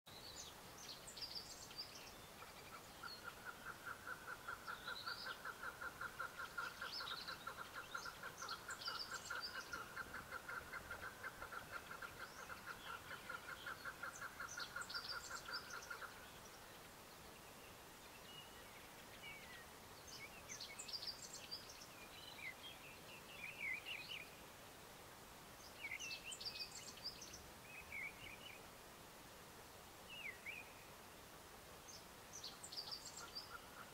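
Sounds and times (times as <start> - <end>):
small birds chirping: 0.1 - 28.8, 29.9 - 31.1, 31.8 - 33.9.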